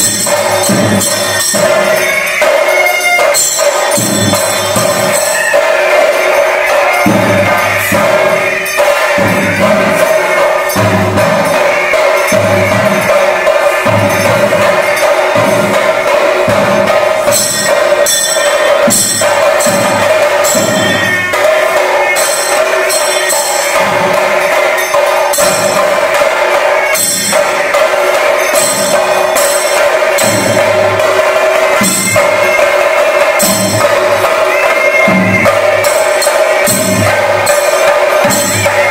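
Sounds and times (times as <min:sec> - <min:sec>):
fast drumming: 0:00.0 - 0:38.9.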